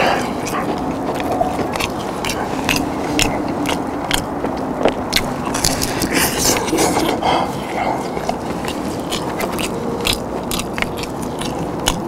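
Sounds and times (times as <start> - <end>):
crunching of fried chicken being chewed: 0.0 - 12.0.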